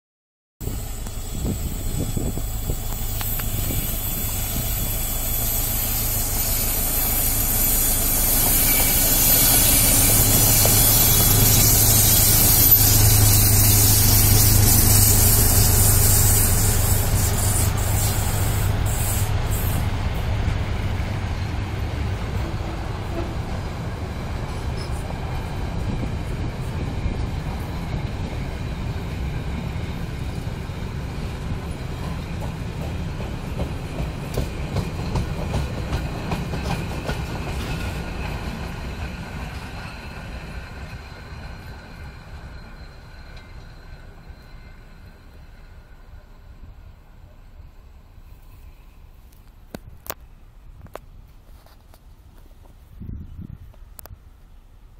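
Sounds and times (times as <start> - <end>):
diesel locomotive engine hum: 0.6 - 54.9
freight wagons rolling on rails: 0.7 - 45.6.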